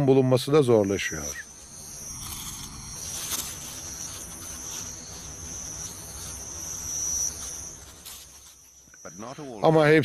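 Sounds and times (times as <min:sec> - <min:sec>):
insect trilling: 0:00.0 - 0:10.0.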